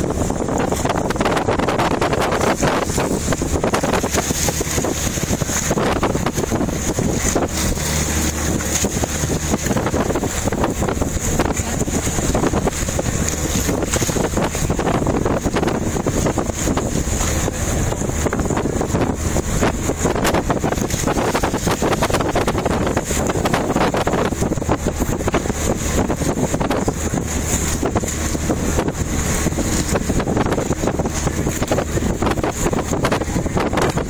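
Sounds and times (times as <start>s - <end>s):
boat engine humming: 0.0s - 34.0s
wind buffeting microphone: 0.0s - 34.0s.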